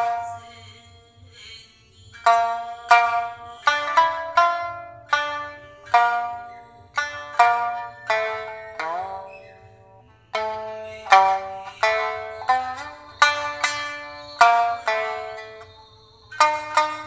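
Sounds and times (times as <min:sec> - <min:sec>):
shamisen plucked notes: 0:00.0 - 0:01.3, 0:02.1 - 0:17.0.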